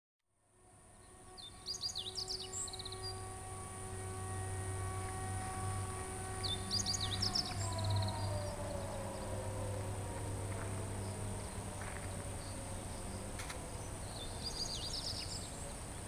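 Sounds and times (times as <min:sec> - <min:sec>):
faint high whine: 0:00.3 - 0:16.0
steady low hum: 0:00.4 - 0:16.0
songbird singing: 0:00.7 - 0:16.0.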